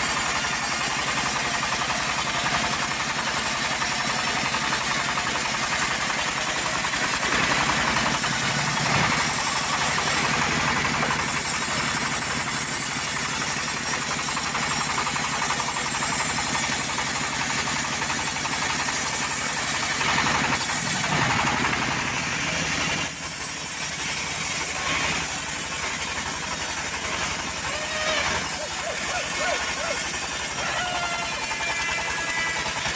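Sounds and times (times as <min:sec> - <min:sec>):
bandsaw cutting log: 0:00.0 - 0:32.9.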